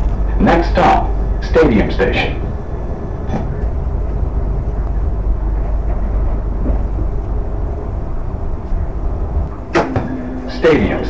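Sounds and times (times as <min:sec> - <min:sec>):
train car rumbling on track: 0:00.0 - 0:11.0.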